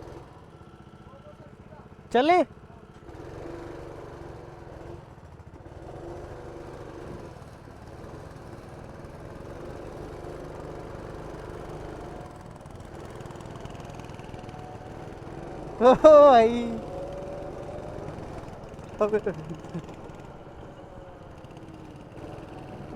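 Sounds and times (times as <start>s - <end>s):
go-kart engine running: 0.0s - 22.9s.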